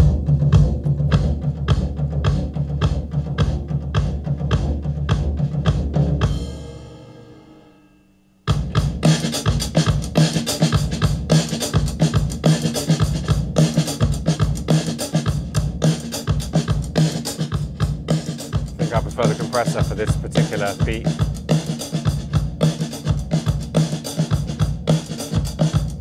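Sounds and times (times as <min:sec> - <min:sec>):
compressed drum beat: 0:00.0 - 0:07.2, 0:08.5 - 0:26.0.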